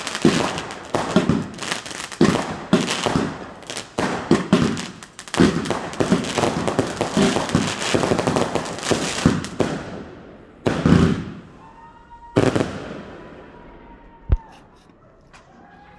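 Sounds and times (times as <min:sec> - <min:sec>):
fireworks bangs and crackling: 0:00.0 - 0:14.5.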